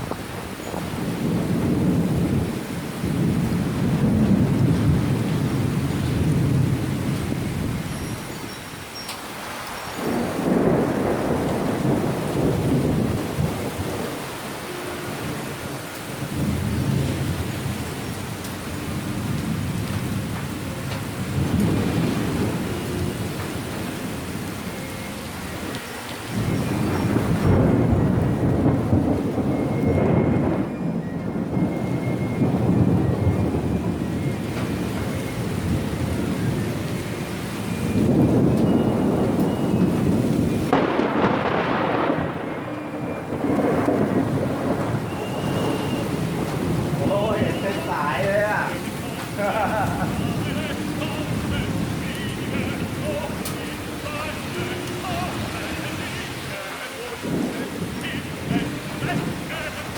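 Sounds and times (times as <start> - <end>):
heavy rain: 0.0 - 59.9
thunder rumbling: 0.0 - 59.9.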